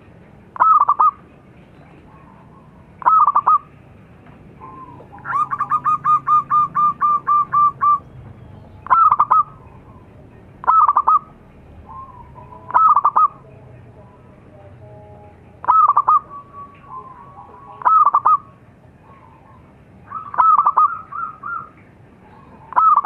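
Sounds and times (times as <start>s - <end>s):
dove cooing: 0.6s - 3.8s, 4.5s - 8.1s, 8.8s - 13.6s, 15.1s - 23.0s.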